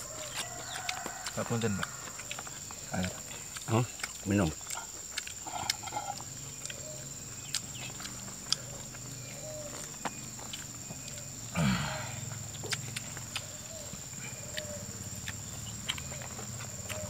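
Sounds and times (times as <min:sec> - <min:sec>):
people chewing and lip-smacking: 0:00.0 - 0:11.6, 0:12.2 - 0:17.0
fingers on food and leaves: 0:00.0 - 0:11.9, 0:12.5 - 0:17.0.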